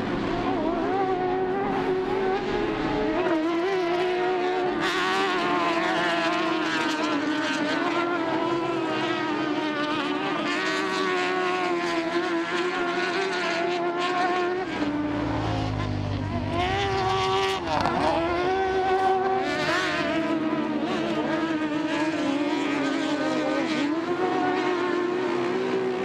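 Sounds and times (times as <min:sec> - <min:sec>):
engines running at high revs: 0:00.0 - 0:26.0.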